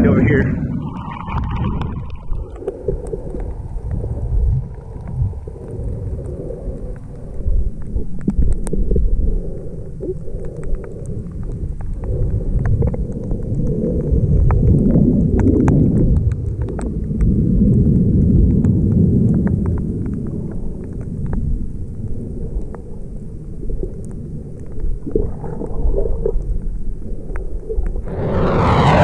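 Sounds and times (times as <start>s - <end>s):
faint underwater clicks: 0.0s - 29.0s
underwater rumble of moving water: 0.0s - 29.0s.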